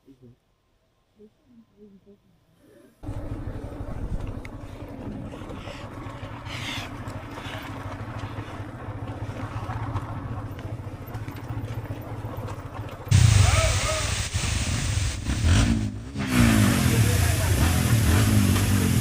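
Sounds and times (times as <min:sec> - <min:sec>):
motorbike engine rumbling: 0:03.0 - 0:19.0.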